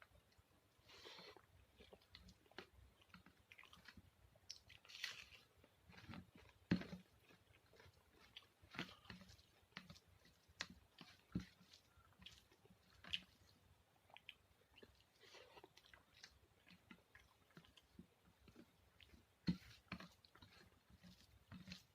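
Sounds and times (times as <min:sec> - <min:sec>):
chewing and wet mouth sounds: 0:00.0 - 0:21.9.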